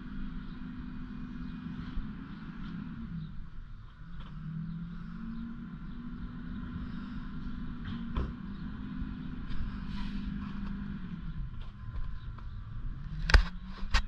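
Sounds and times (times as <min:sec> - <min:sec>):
distant diesel engine running: 0:00.0 - 0:14.0.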